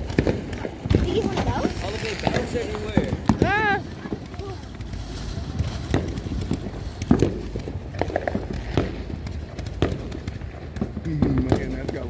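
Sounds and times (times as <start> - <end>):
small fireworks popping and crackling: 0.0 - 12.0.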